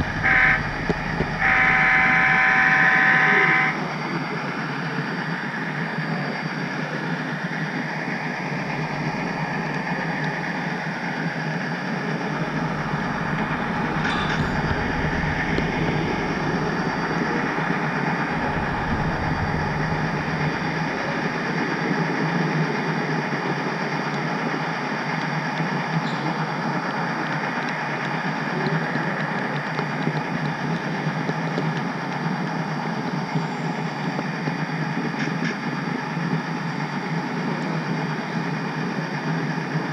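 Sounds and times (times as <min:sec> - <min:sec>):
model train wheels rumbling: 0:00.0 - 0:39.9.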